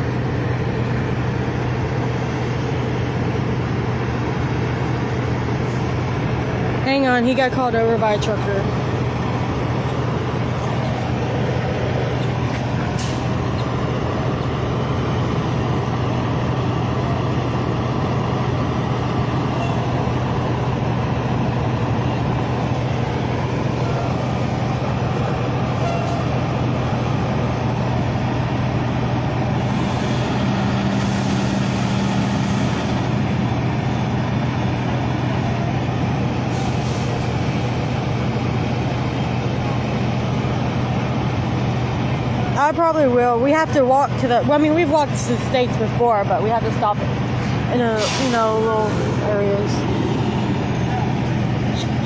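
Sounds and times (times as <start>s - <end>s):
diesel trucks idling: 0.0s - 52.0s.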